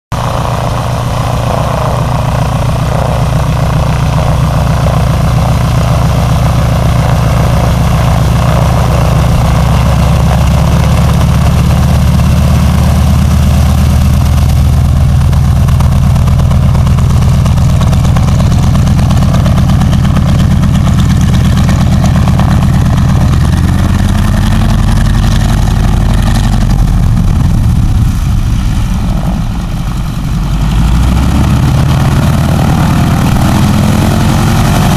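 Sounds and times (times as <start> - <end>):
radial aircraft engine running: 0.1 - 34.9.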